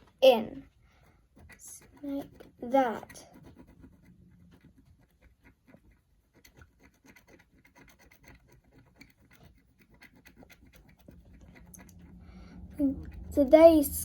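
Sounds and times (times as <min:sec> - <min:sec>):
stylus scratching paper: 0:00.0 - 0:14.0.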